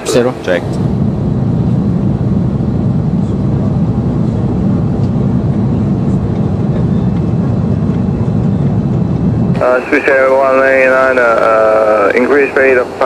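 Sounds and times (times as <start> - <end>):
airflow and engines rumbling: 0.0 - 13.0.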